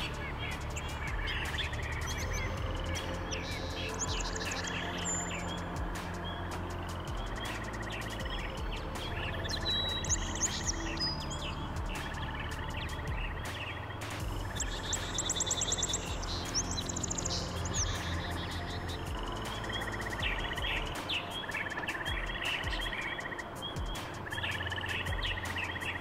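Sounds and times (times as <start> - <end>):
birds chirping and trilling: 0.0 - 26.0
steady low hum: 0.0 - 26.0.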